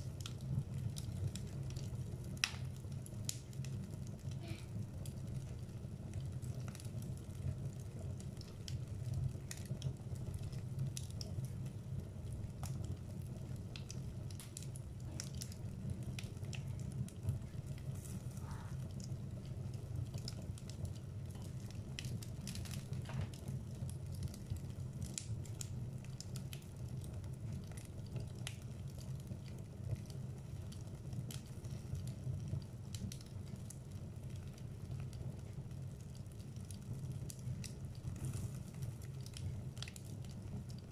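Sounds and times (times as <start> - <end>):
logs crackling and popping: 0.0 - 40.9
low rumble of flame: 0.0 - 40.9.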